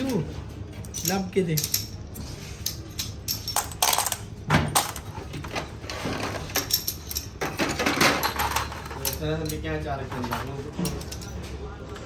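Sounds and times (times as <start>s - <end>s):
metal tools clinking: 0.0s - 11.6s.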